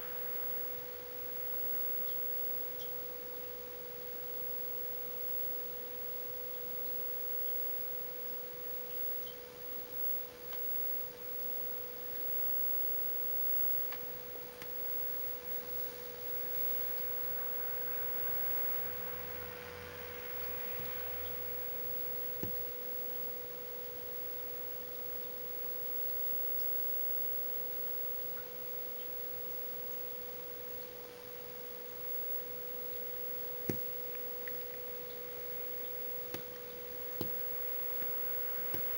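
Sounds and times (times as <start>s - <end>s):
steady single-pitched tone: 0.0s - 38.9s.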